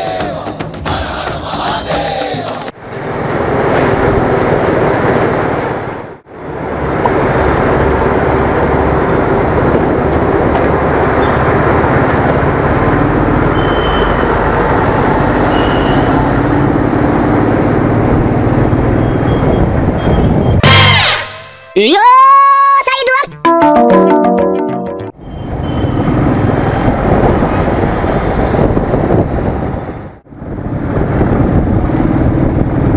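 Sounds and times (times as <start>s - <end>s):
wind and road noise: 2.2s - 21.3s, 25.1s - 32.9s.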